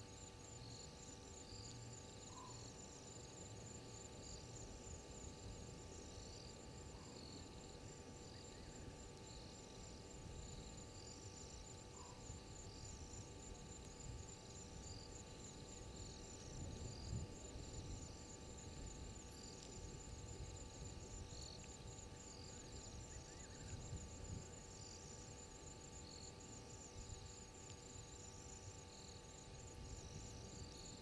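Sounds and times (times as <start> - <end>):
faint electrical hum: 0.0 - 31.0
insect high-pitched trill: 0.0 - 31.0
lower insect chirping: 0.0 - 31.0.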